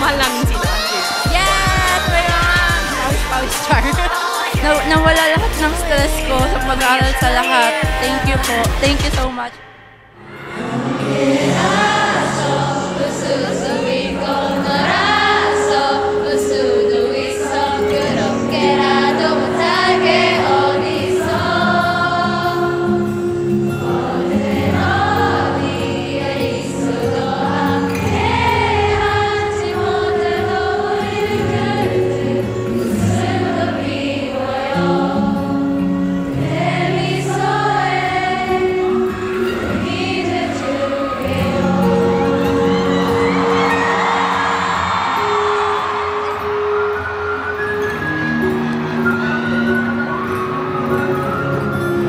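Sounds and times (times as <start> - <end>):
group singing a slow pop song: 0.0 - 45.2
sustained backing music: 0.0 - 52.0.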